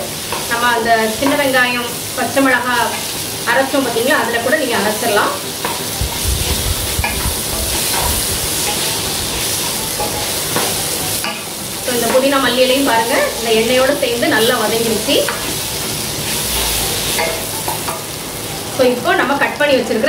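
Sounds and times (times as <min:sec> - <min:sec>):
spatula stirring in a pan: 0:00.0 - 0:18.3
vegetables sizzling in a pan: 0:00.0 - 0:20.0.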